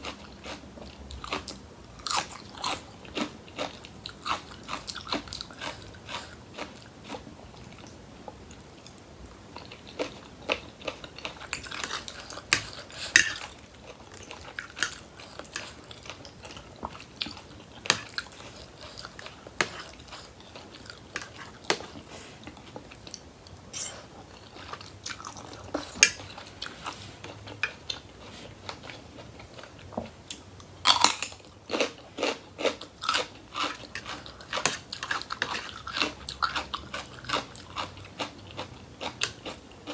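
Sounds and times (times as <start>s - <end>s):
chewing and crunching vegetables: 0.0s - 39.9s.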